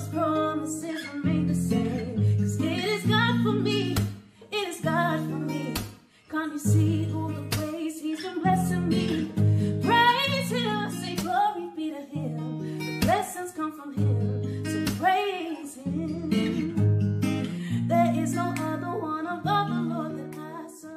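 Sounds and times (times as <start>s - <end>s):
acoustic guitar: 0.0s - 20.9s
person singing: 0.0s - 20.9s.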